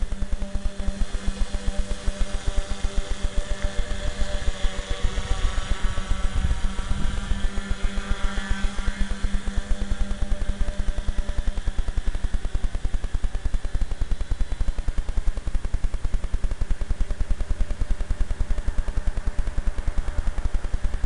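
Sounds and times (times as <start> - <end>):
drone motors and propellers buzzing: 0.0 - 21.0
low regular fluttering: 0.0 - 21.0.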